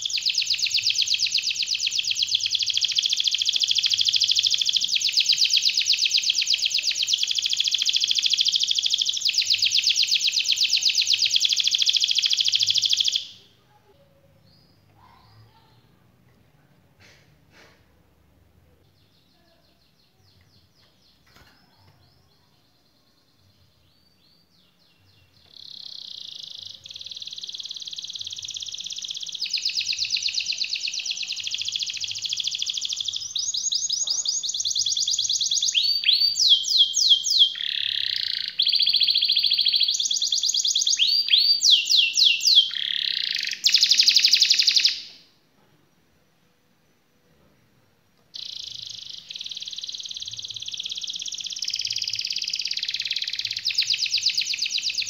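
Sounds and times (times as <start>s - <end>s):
canary singing trills: 0.0s - 16.0s, 18.8s - 45.2s, 48.3s - 55.0s.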